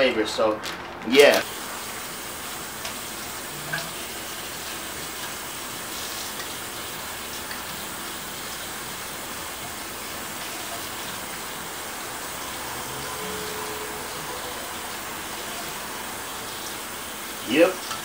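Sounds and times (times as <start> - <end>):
tap water running into colander: 1.4 - 18.0.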